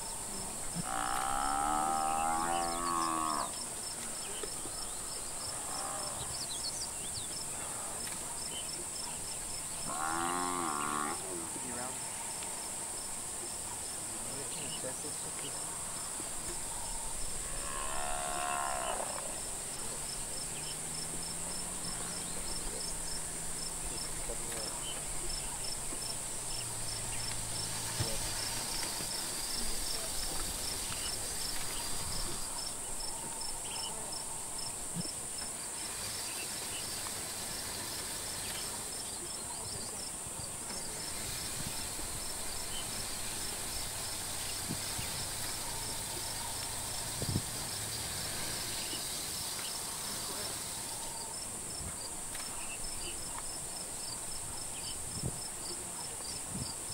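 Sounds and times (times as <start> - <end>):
insect high-pitched drone: 0.0 - 55.1.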